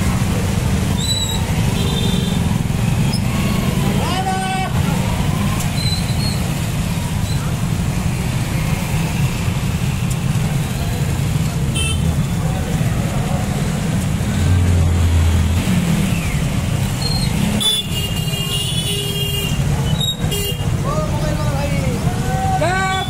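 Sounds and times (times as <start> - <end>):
motorcycle engines passing: 0.0 - 23.0.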